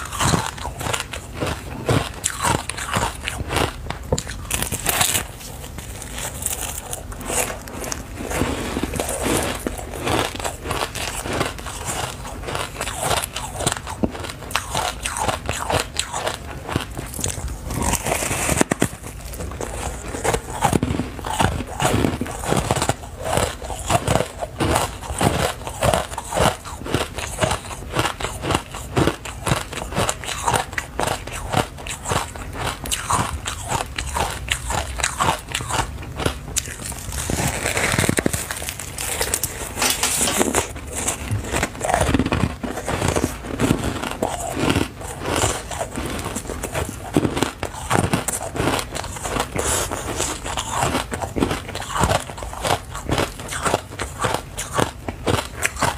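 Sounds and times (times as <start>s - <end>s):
chewing foam ice crunches: 0.0s - 55.9s.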